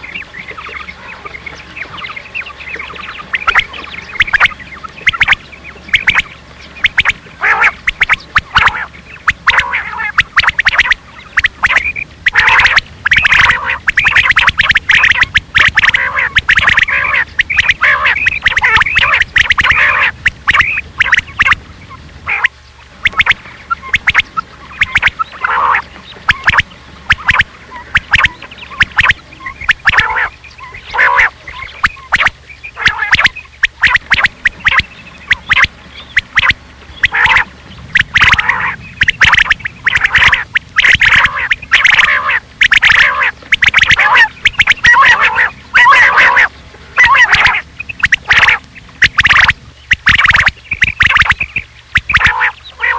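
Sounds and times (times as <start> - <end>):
quail calling: 0.0 - 52.9.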